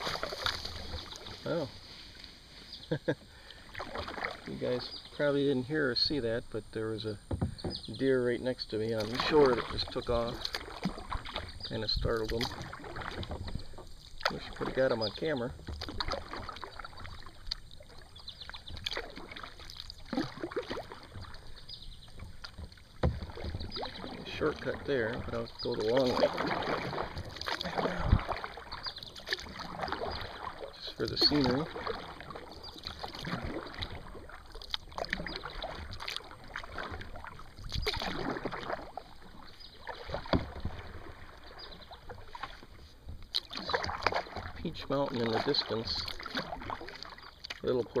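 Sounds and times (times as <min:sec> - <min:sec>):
kayak paddles splashing in water: 0:00.0 - 0:48.0.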